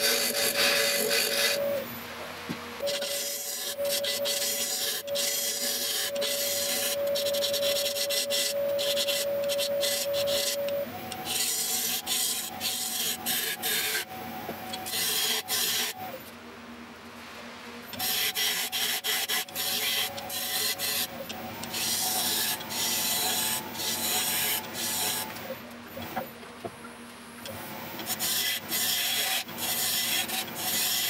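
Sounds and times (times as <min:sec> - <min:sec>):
turning tool scraping wood: 0:00.0 - 0:01.9, 0:02.8 - 0:16.2, 0:17.9 - 0:26.3, 0:27.5 - 0:31.0
lathe humming: 0:00.0 - 0:16.2, 0:17.9 - 0:26.3, 0:27.4 - 0:31.0.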